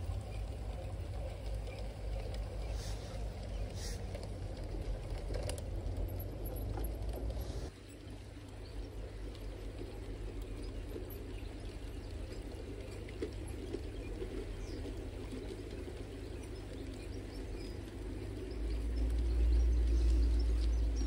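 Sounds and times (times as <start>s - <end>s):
model trains rumbling and rattling: 0.0s - 21.0s.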